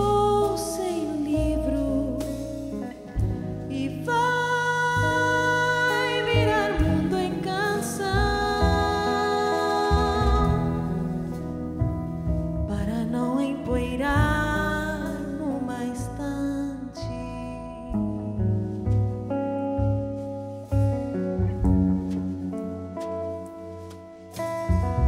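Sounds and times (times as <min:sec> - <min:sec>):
low bass accompaniment: 0:00.0 - 0:25.0
wavering lead melody: 0:00.0 - 0:25.0.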